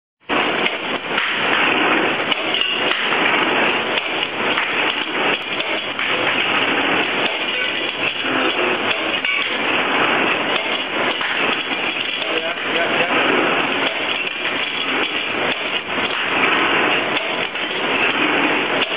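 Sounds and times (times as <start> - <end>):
machine metallic knocking: 0.2 - 18.9.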